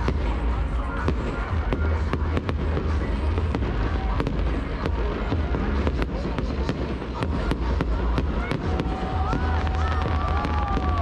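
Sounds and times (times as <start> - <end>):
fireworks cracks and pops: 0.0 - 11.0.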